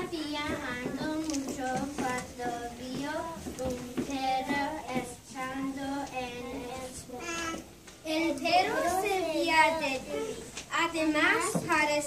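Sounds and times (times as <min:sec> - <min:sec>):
young child singing: 0:00.0 - 0:12.0.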